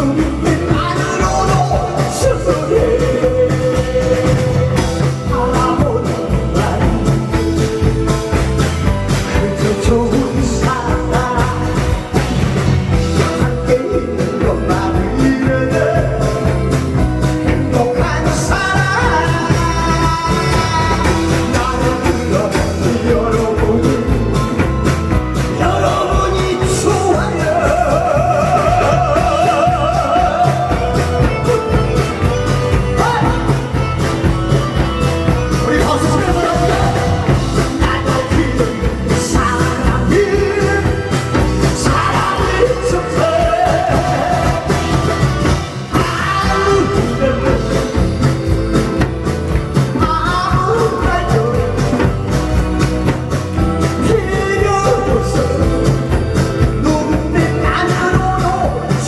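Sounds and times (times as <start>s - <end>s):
amplified backing track with beat: 0.0s - 59.0s
person singing with vibrato: 0.0s - 59.0s.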